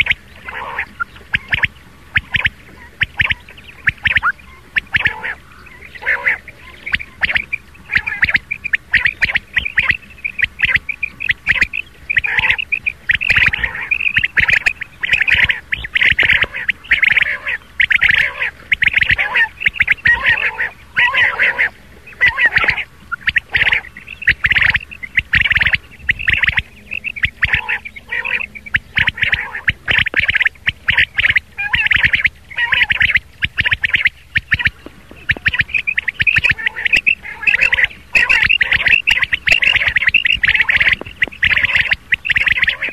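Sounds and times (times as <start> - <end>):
quail calls: 0.0 - 42.9.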